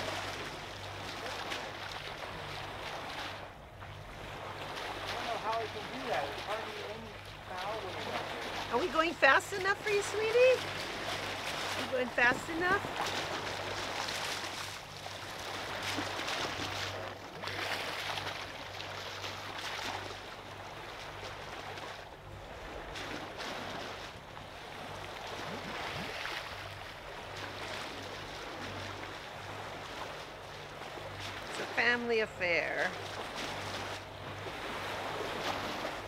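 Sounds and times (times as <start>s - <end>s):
steady low hum: 0.0s - 36.0s
water rushing and splashing: 0.0s - 36.0s.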